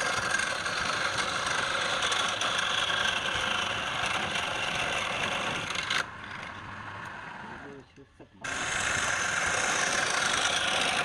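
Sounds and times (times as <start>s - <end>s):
power tool whirring on wood: 0.0s - 7.6s, 8.4s - 11.0s.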